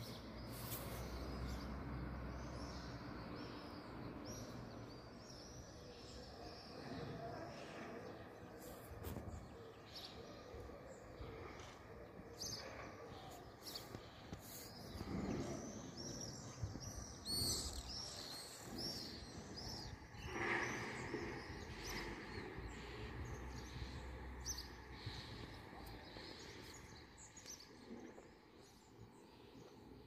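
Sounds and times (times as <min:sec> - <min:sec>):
low steady background rumble: 0:00.0 - 0:30.0
small birds chirping: 0:00.0 - 0:30.0.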